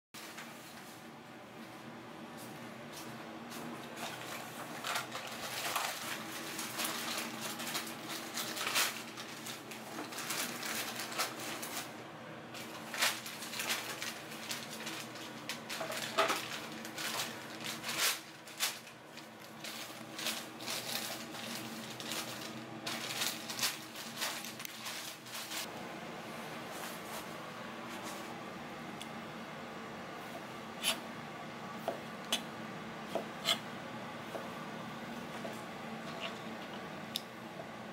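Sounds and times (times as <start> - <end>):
low steady hum: 0.2 - 37.9.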